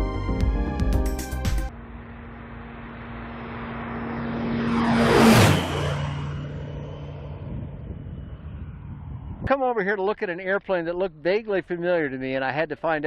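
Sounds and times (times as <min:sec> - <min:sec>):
light aircraft engine drone passing: 0:01.6 - 0:12.4.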